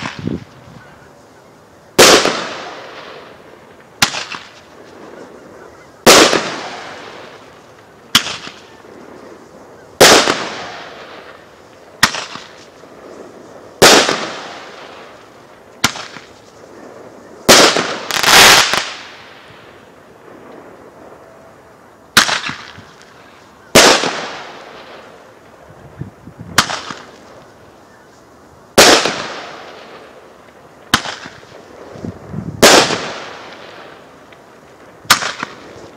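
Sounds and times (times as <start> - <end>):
loud echoing firework bangs: 0.0 - 0.4, 2.0 - 21.4, 22.1 - 25.4, 26.5 - 27.4, 28.7 - 35.9.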